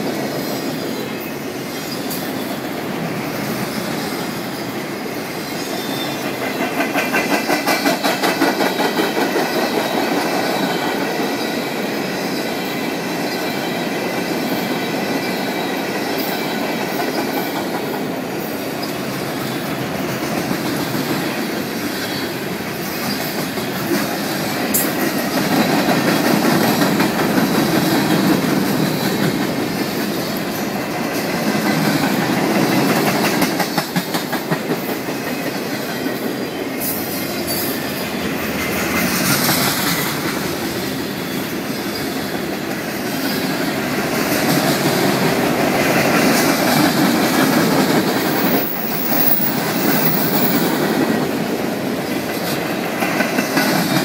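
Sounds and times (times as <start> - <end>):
train wheels rumbling on rails: 0.0 - 54.0
wheels clacking over rail joints: 1.8 - 54.0.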